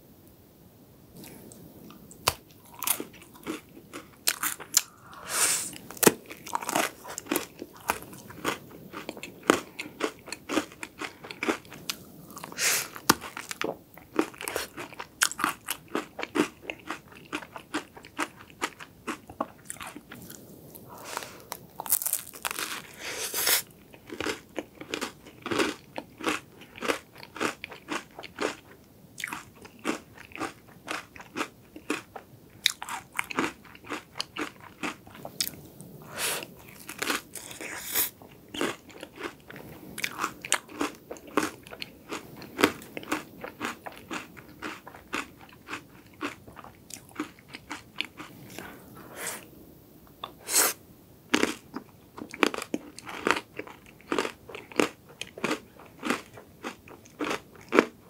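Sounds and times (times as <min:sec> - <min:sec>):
crunching chocolate wafer: 0:02.2 - 0:35.6, 0:36.6 - 0:48.7, 0:51.3 - 0:58.0.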